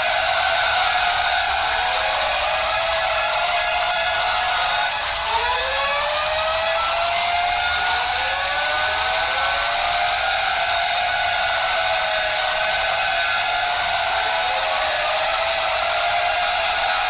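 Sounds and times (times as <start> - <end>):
loud steady hiss: 0.0 - 5.4, 7.0 - 17.0
alarm siren wailing: 0.0 - 17.0.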